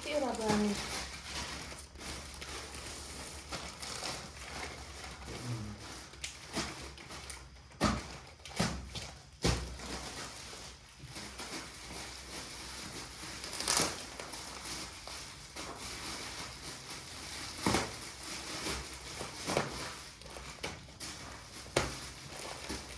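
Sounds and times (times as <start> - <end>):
items being rustled: 0.0 - 22.9.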